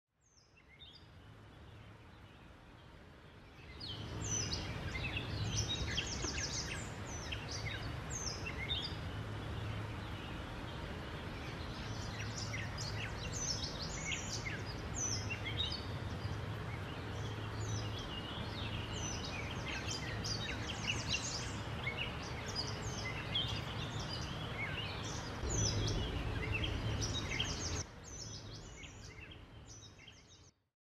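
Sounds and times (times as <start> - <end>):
steady low hum: 1.1 - 29.9.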